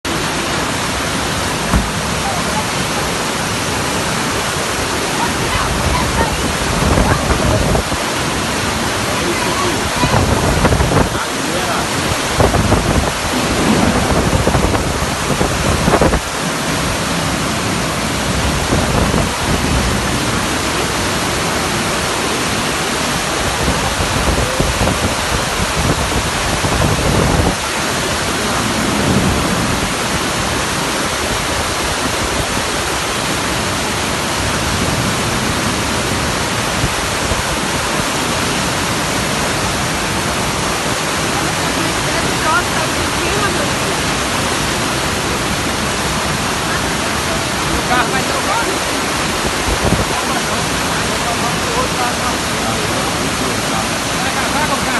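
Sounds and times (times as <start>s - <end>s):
heavy rain: 0.0s - 54.9s
rushing water: 0.0s - 54.9s.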